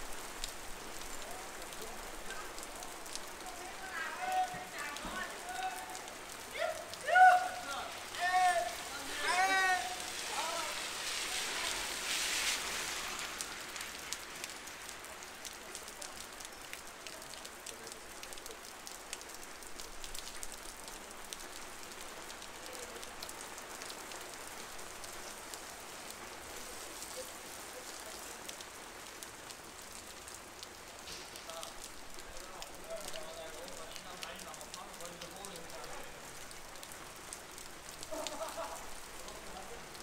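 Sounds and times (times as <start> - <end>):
heavy rain on a street: 0.0 - 40.0.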